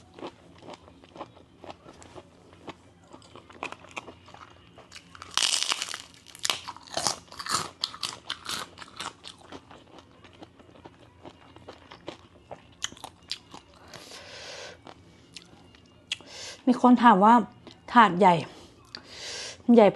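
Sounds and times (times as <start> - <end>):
person chewing crunchy food: 0.0 - 16.2.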